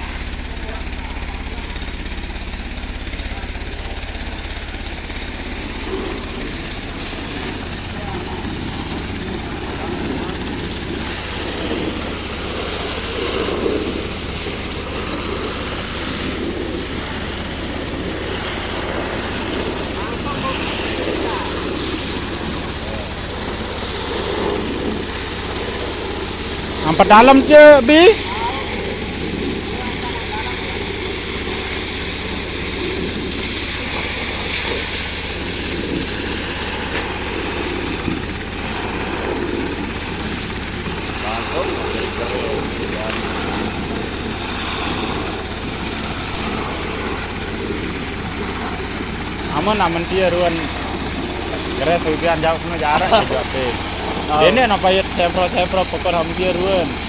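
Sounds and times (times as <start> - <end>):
pump engine running: 0.0 - 57.0
steady rushing noise: 0.0 - 57.0.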